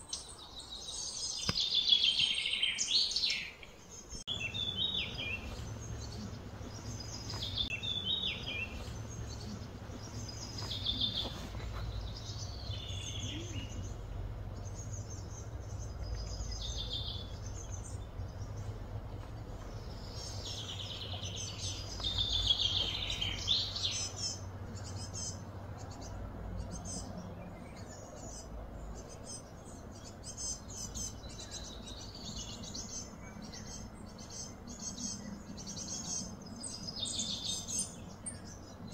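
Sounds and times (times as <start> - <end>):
birds chirping and calling: 0.0 - 38.9
steady low hum: 4.2 - 38.9.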